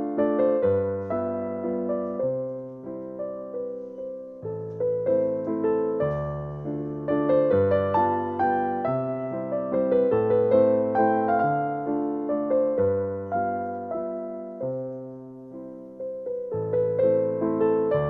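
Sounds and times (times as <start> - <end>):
gentle piano tune: 0.0 - 18.0.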